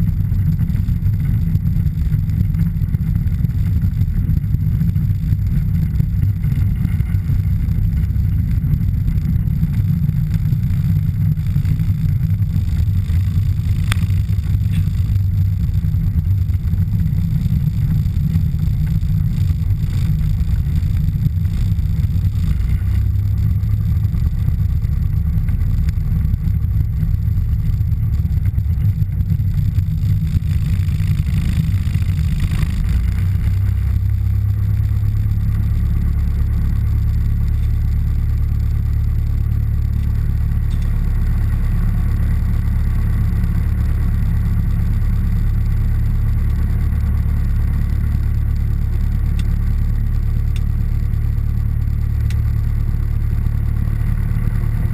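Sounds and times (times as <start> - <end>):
aircraft engine running steadily: 0.0 - 54.9.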